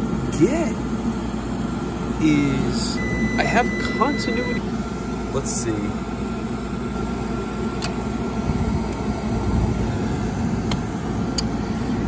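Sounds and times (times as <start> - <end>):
gas furnace rumbling hum: 0.0 - 12.0.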